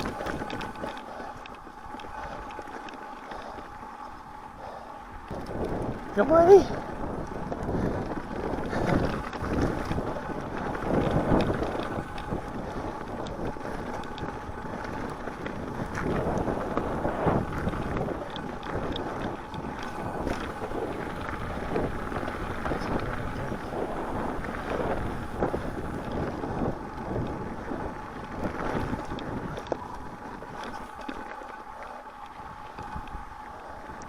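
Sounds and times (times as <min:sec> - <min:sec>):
bike clicks and rattles: 0:00.0 - 0:34.0
mountain bike rolling on dirt trail: 0:00.0 - 0:34.0
wind buffeting microphone: 0:00.0 - 0:34.0.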